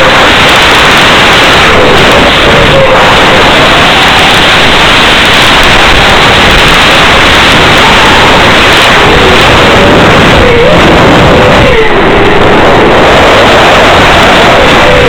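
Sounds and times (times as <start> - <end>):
loud static hiss: 0.0 - 15.0.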